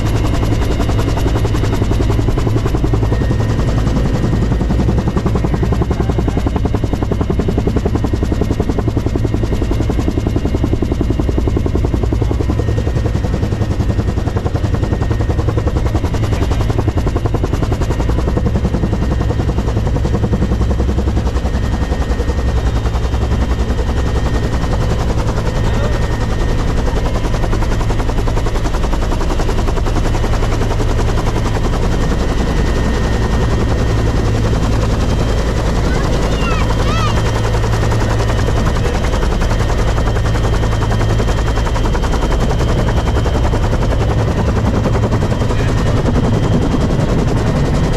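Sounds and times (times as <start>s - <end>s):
helicopter rotor beating: 0.0s - 47.9s.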